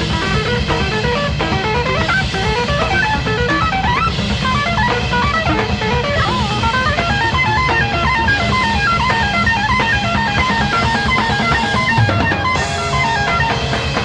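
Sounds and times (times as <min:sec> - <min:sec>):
bass and drums: 0:00.0 - 0:14.0
electric guitar fast runs: 0:00.0 - 0:14.0.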